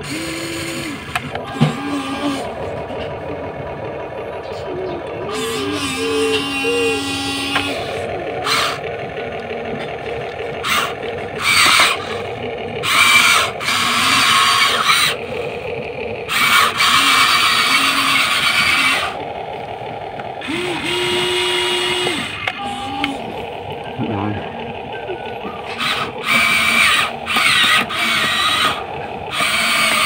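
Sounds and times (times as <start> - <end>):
small electric motors whirring: 0.0 - 30.0
steady hum: 0.0 - 30.0.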